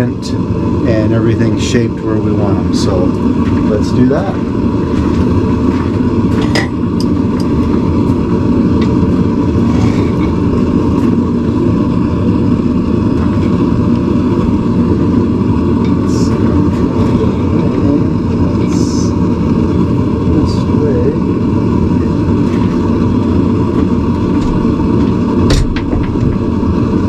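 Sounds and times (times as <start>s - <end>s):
forge rushing noise: 0.0s - 27.0s.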